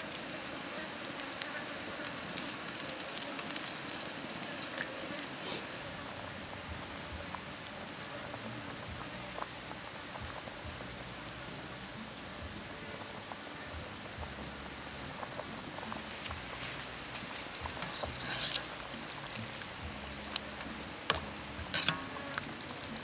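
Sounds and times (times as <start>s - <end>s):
soup simmering: 0.0s - 23.0s
wood fire crackling: 0.0s - 23.0s.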